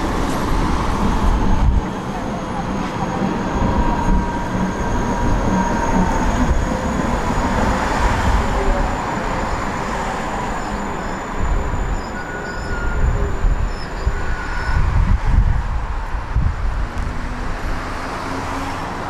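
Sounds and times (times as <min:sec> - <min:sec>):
tram wheels rumbling on track: 0:00.0 - 0:19.0.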